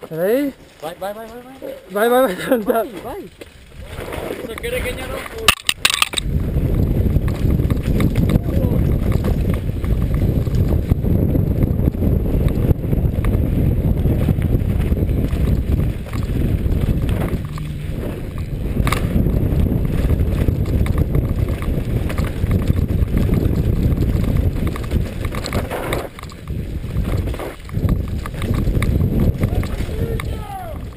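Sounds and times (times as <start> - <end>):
mountain bike rattling: 0.0 - 30.9
wind rumbling on microphone: 0.0 - 30.9.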